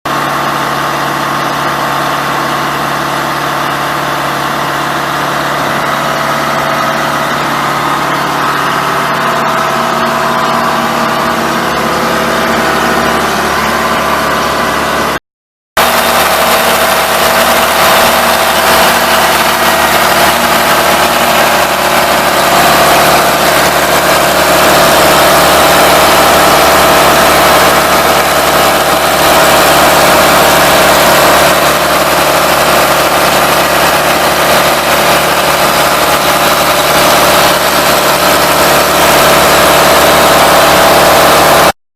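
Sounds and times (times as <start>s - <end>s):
air compressor engine running: 0.1s - 15.2s, 15.8s - 41.8s.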